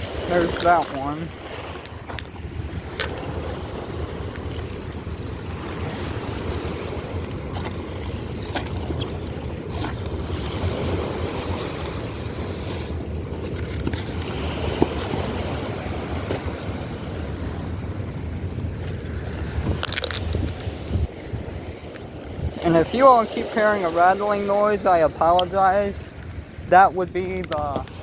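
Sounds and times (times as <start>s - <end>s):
fast river current rushing: 0.0s - 28.0s
wind rumble on microphone: 0.0s - 28.0s.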